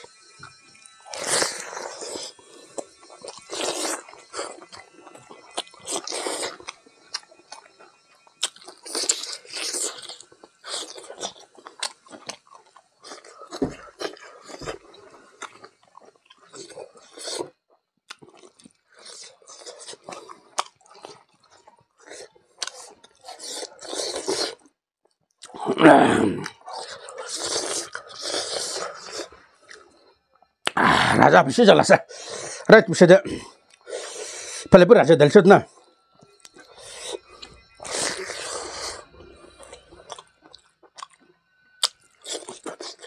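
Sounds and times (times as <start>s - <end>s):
man chewing with mouth open: 0.0s - 31.3s, 32.0s - 34.8s, 35.6s - 43.0s.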